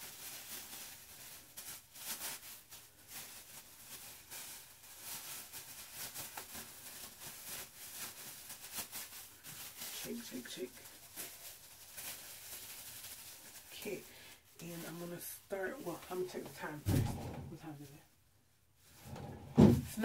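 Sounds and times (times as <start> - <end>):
plastic gloves crinkling: 0.0 - 20.0.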